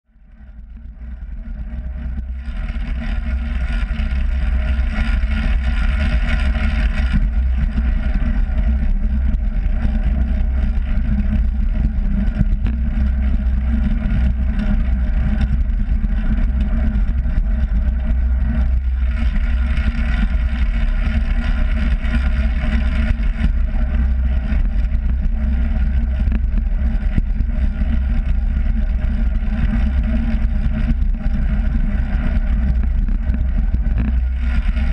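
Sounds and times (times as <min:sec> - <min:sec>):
wind buffeting microphone: 0:00.4 - 0:34.9.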